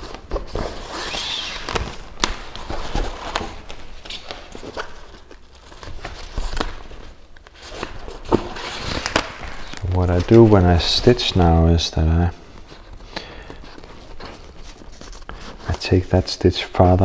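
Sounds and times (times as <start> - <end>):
fabric rustling and handling: 0.0 - 16.2.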